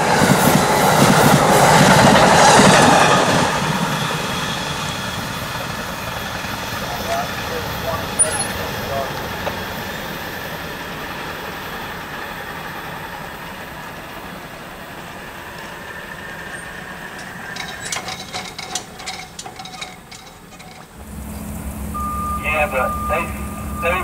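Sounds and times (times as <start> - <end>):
passenger train rumbling: 0.0 - 24.0.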